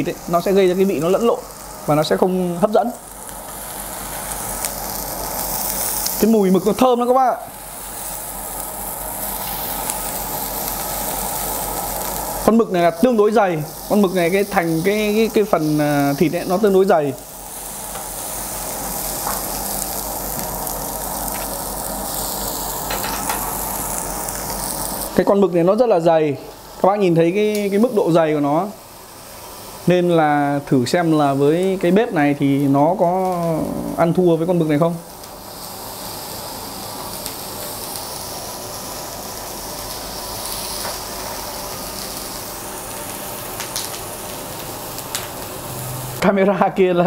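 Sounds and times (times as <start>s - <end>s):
squid sizzling on grill plate: 0.0s - 46.6s.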